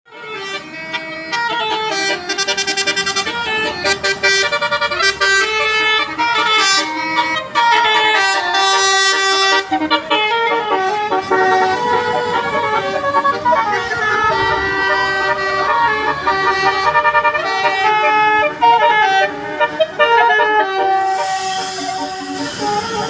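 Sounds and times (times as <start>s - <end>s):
multi-tone air horns melody: 0.1s - 23.0s.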